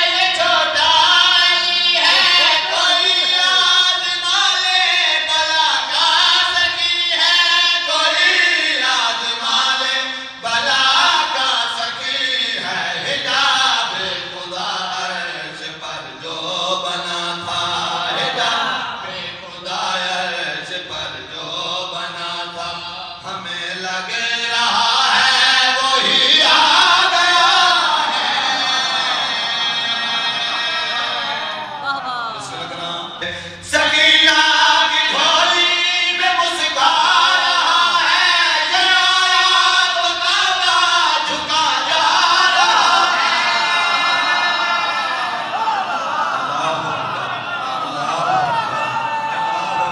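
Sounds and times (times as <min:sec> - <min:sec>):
man chanting into microphone: 0:00.0 - 0:28.4, 0:31.8 - 0:44.2.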